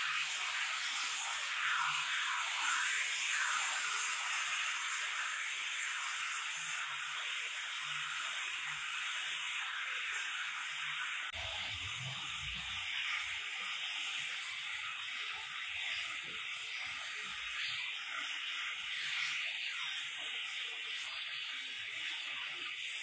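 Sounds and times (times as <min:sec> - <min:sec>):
angle grinder polishing stone: 0:00.0 - 0:23.0.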